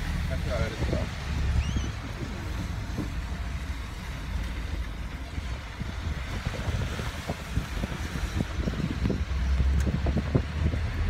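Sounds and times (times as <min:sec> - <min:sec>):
outdoor street hiss: 0:00.0 - 0:11.0
wind buffeting microphone: 0:00.0 - 0:11.0.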